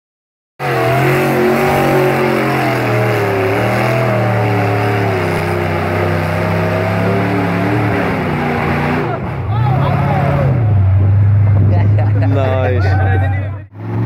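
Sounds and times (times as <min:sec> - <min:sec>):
truck engine revving hard: 0:00.6 - 0:14.0.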